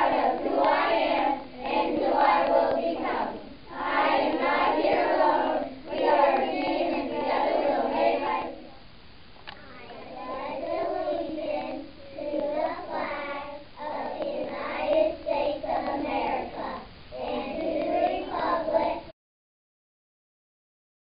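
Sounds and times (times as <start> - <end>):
children reciting in unison: 0.0 - 8.9, 9.8 - 19.1.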